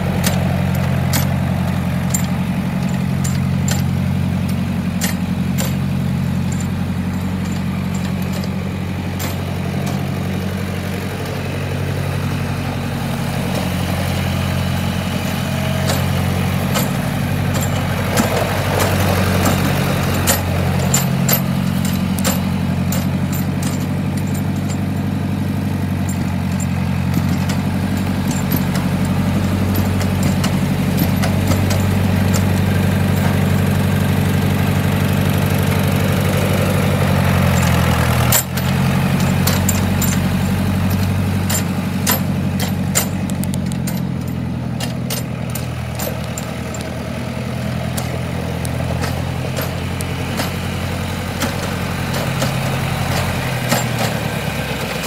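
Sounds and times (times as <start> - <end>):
tractor engine running: 0.0 - 55.0
tyres on gravel: 0.0 - 55.0.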